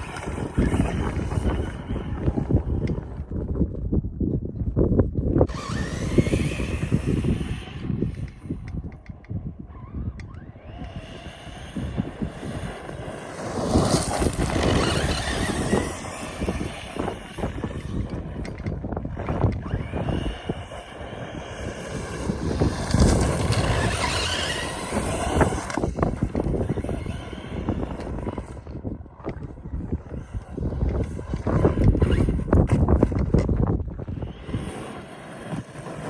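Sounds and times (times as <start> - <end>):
electric motor whining: 0.0 - 3.4, 5.4 - 36.0
wind buffeting microphone: 0.0 - 36.0.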